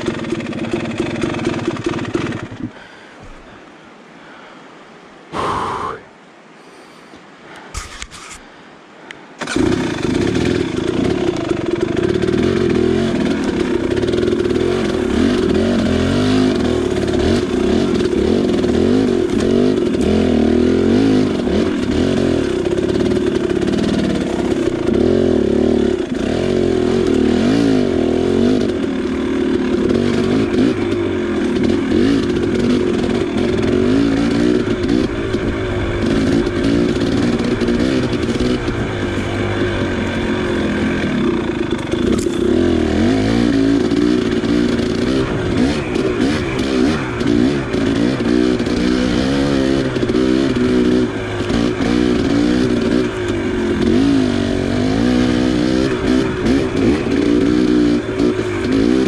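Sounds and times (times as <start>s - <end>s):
dirt bike engine revving: 0.0s - 2.8s, 9.4s - 59.0s.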